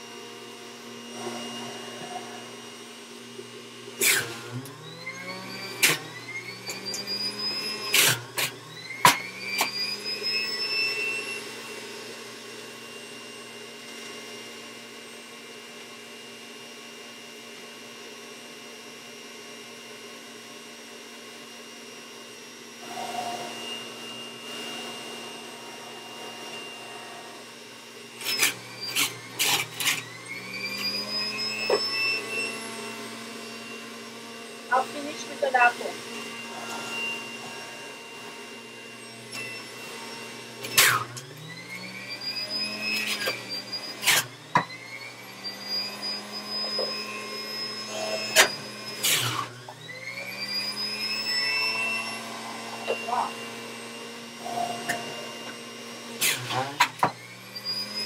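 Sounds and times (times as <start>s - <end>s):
juicer motor whine: 0.0s - 58.0s.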